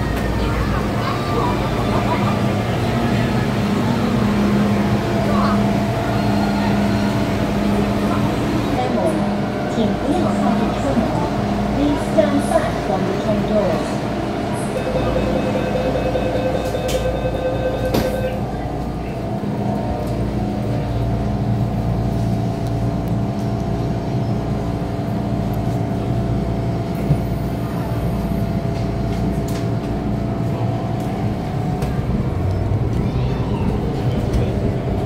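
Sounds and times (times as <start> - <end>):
train rumbling on track: 0.0 - 35.0.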